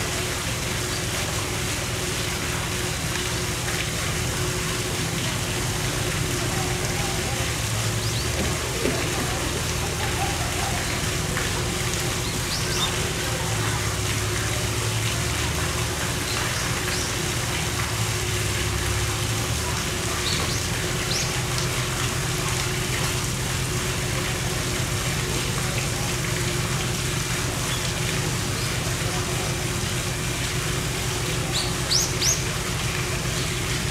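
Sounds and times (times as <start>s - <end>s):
flowing water: 0.0s - 33.9s.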